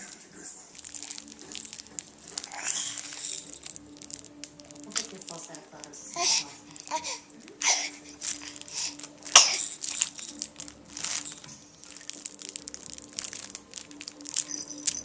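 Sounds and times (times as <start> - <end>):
crinkly rustling: 0.0 - 15.0.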